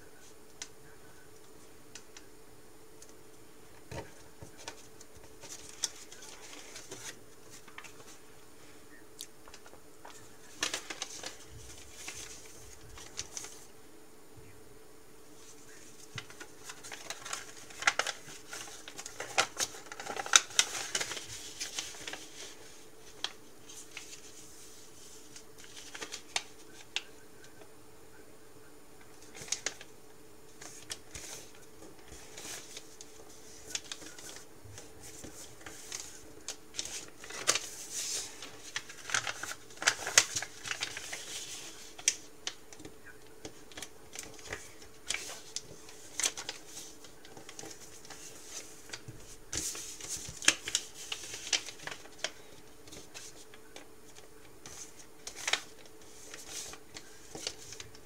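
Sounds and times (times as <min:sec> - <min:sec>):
faint steady hum: 0:00.0 - 0:58.0
paper crinkling and crackling: 0:03.8 - 0:08.3, 0:09.5 - 0:13.7, 0:15.4 - 0:27.7, 0:29.0 - 0:29.9, 0:30.5 - 0:58.0.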